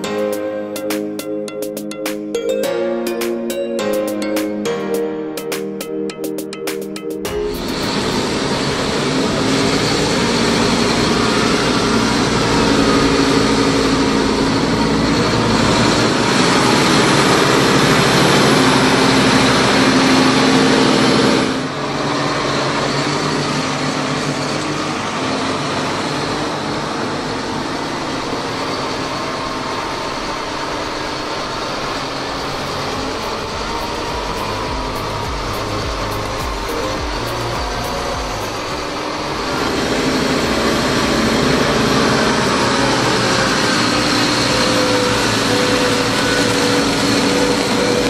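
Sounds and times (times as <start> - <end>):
diesel engine and spreader machinery: 7.2 - 48.0.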